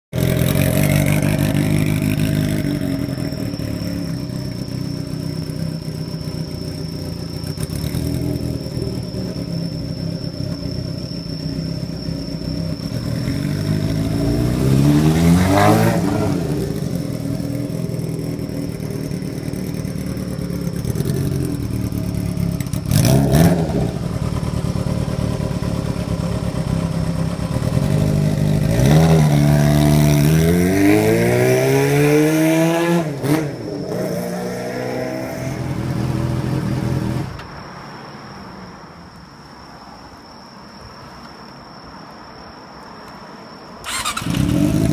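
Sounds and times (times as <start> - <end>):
motorcycle engine idling and revving: 0.0 - 37.6, 43.8 - 44.9.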